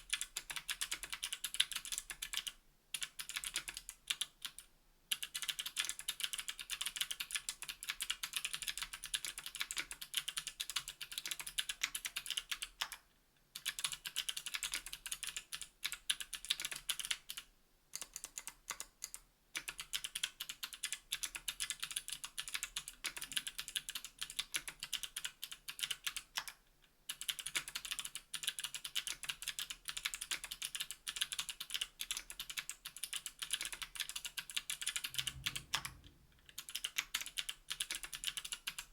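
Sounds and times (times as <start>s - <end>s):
mechanical keyboard typing: 0.0s - 13.0s, 13.6s - 38.9s.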